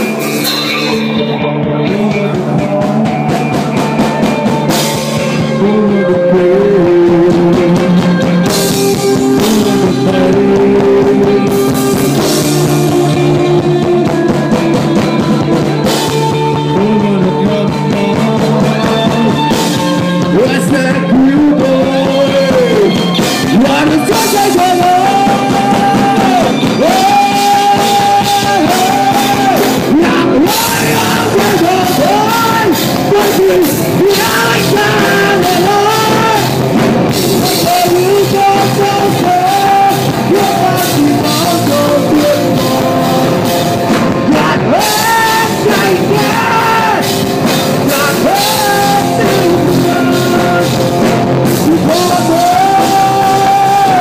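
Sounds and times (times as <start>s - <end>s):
bass guitar: 0.0s - 54.0s
distorted electric guitar: 0.0s - 54.0s
drums: 0.0s - 54.0s
person singing into microphone: 0.0s - 54.0s.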